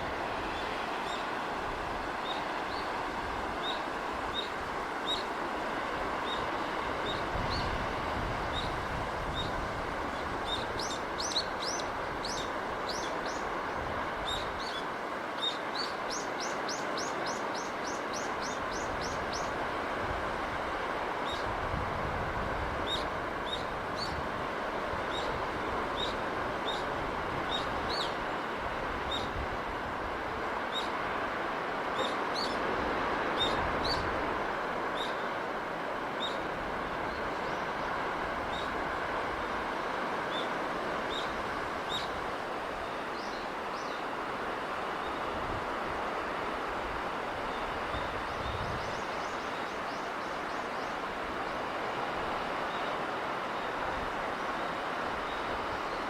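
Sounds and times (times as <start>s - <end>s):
rushing sea breeze: 0.0s - 56.0s.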